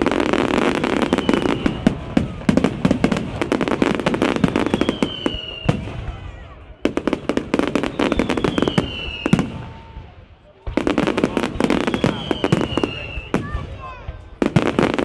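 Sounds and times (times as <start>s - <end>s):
falling firework whistle: 0.0s - 10.1s, 11.3s - 13.9s
fireworks bangs and crackle: 0.0s - 15.0s.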